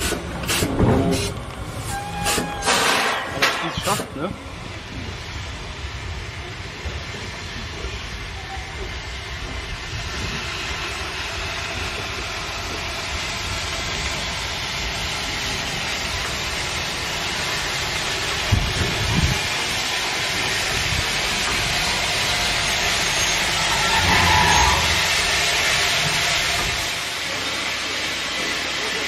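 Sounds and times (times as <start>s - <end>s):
steam hissing: 0.0s - 2.8s, 3.7s - 4.3s, 7.2s - 29.0s
locomotive rolling rumble: 0.0s - 29.0s.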